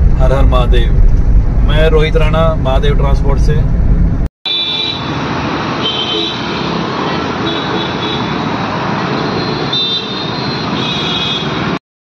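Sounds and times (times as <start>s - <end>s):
road traffic engines and tyres: 0.0s - 11.8s.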